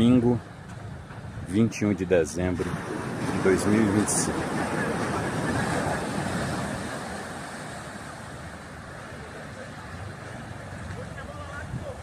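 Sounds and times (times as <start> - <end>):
wind: 0.0 - 12.0
sea surf washing on beach: 1.2 - 12.0.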